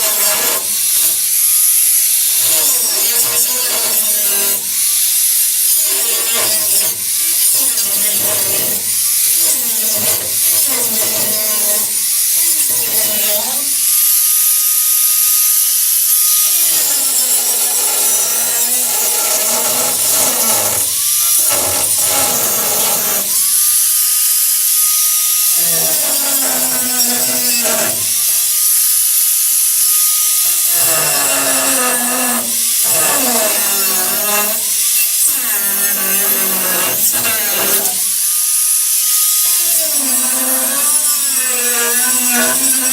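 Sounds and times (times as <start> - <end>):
power tool cutting steel: 0.0 - 42.9
power tool motor: 0.0 - 42.9.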